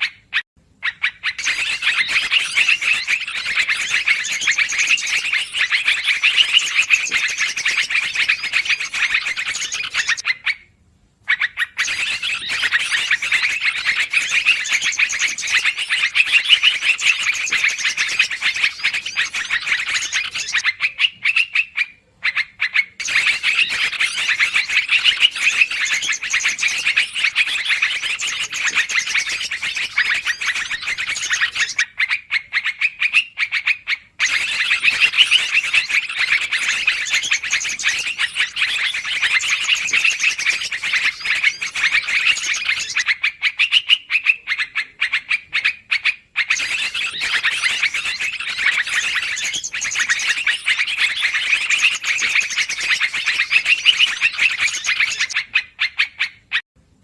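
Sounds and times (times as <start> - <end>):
birds chattering calls: 0.0 - 10.6, 11.2 - 56.6.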